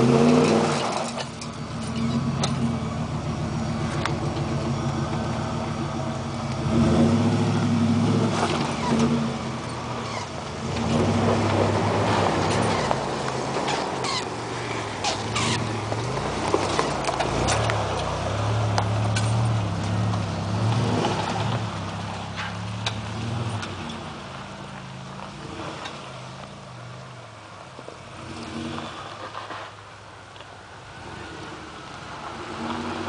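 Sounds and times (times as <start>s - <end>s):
spinning tires throwing mud: 0.0s - 26.6s
off-road engines revving: 0.0s - 29.8s, 30.8s - 33.0s.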